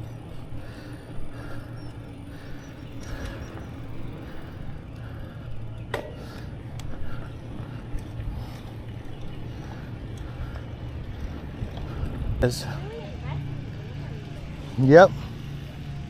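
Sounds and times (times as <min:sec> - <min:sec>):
bicycle riding rumble: 0:00.0 - 0:16.0.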